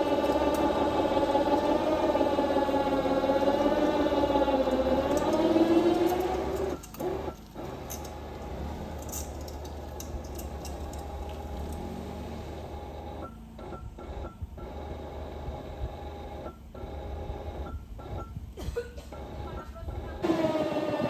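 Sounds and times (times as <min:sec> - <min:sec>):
car interior engine drone: 0:00.0 - 0:21.0.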